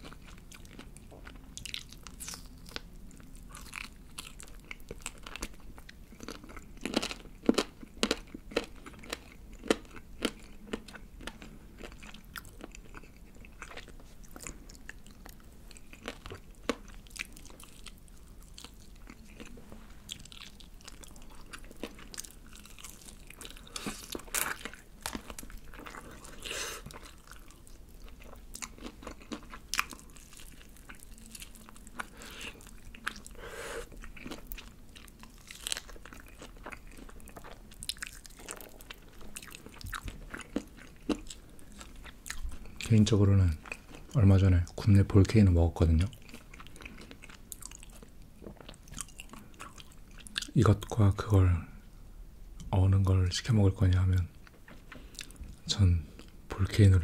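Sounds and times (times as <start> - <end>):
crunchy chewing of fried chicken: 0.0 - 51.1, 54.3 - 56.9.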